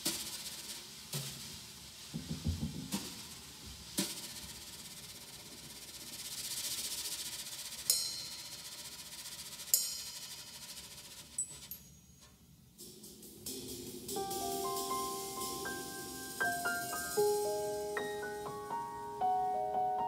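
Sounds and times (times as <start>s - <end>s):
sharp cymbal strikes: 3.0s - 20.0s
soft cymbal swell: 3.3s - 20.0s.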